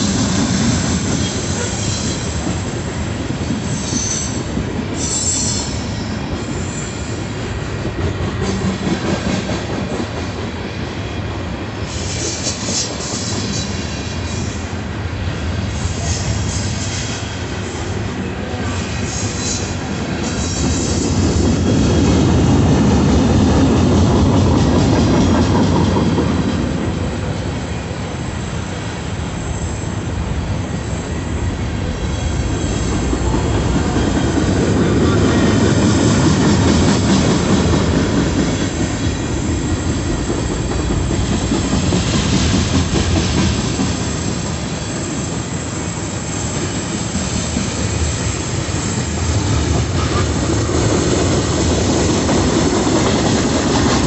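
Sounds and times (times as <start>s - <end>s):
steel wheels rumbling on rail: 0.0s - 54.0s.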